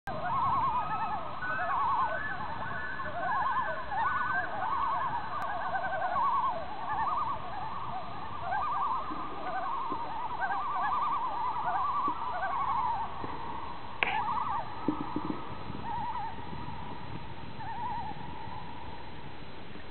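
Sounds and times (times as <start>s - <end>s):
loons calling: 0.1s - 19.8s.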